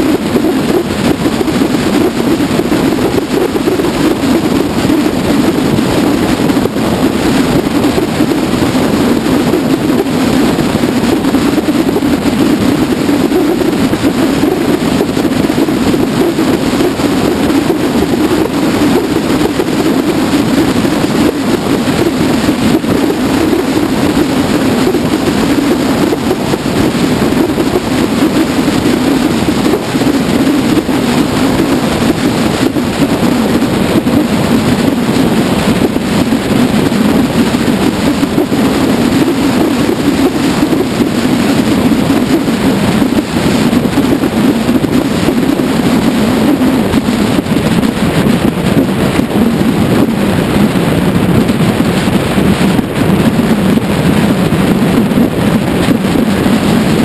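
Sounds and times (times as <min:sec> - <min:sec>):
road noise: 0:00.0 - 0:57.0
wind buffeting microphone: 0:00.0 - 0:57.0.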